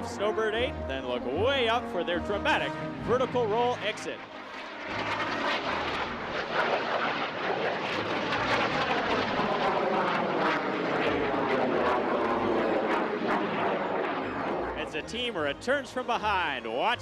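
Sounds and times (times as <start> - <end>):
jet noise rushing: 2.2 - 16.7.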